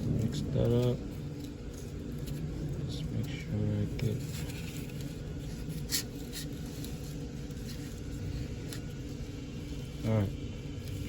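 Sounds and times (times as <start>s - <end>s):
faint clicks and scrapes: 0.0s - 11.0s
steady low hum: 0.0s - 11.0s.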